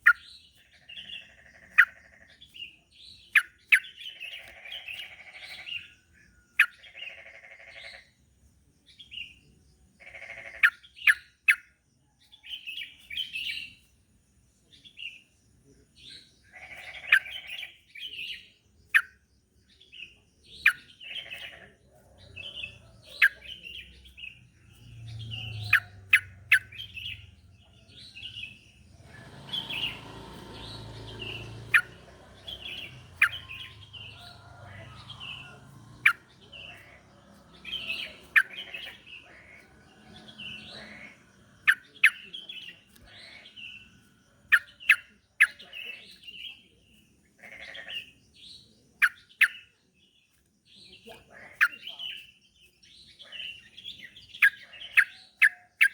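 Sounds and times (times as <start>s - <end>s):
bulbul chirping song: 0.0s - 8.3s, 10.2s - 14.0s, 14.7s - 47.0s, 47.7s - 55.9s.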